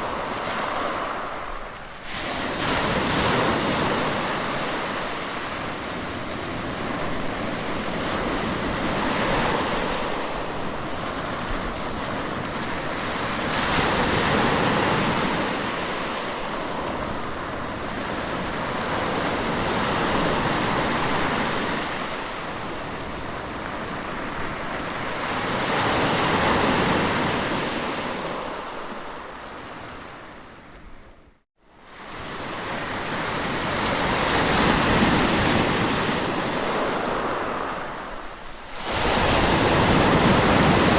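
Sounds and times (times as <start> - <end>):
sea waves washing on shore: 0.0 - 30.8, 31.8 - 40.9.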